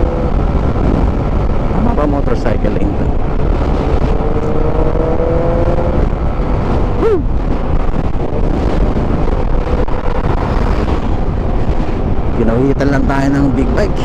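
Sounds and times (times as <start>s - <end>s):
wind rush: 0.0s - 14.0s.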